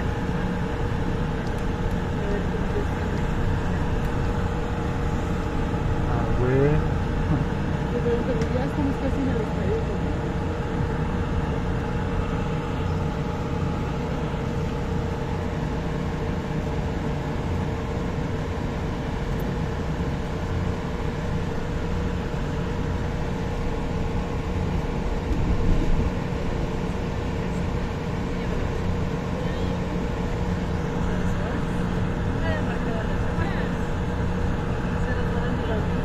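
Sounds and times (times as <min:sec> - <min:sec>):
light-rail train rumbling: 0:00.0 - 0:36.0.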